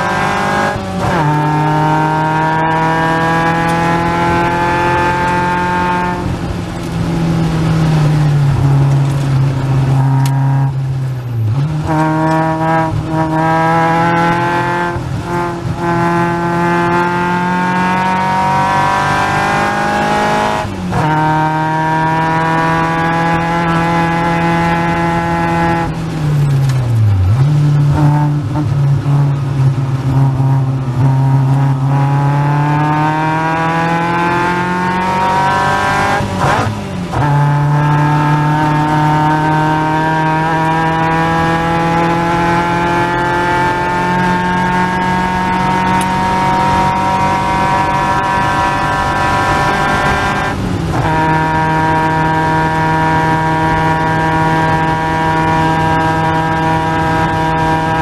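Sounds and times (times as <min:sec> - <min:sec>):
car engine revving hard: 0:00.0 - 0:58.0.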